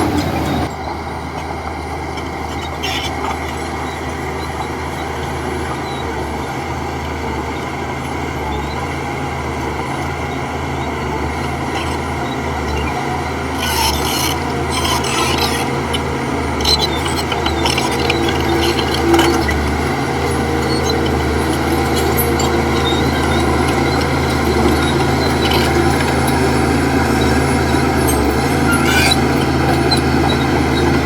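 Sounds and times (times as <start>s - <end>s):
heavy diesel engine drone: 0.0s - 31.0s.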